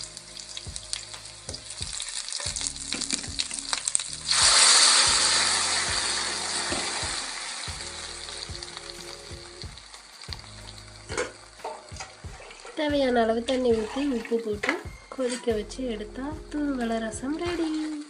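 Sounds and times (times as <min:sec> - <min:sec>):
hot oil crackling in a pan: 0:00.0 - 0:14.4, 0:16.7 - 0:18.0
paste sizzling in oil: 0:00.0 - 0:15.6.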